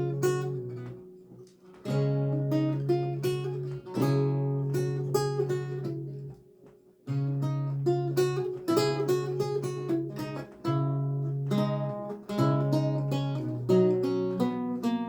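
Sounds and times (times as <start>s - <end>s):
solo lute playing: 0.0s - 6.4s, 7.0s - 15.0s.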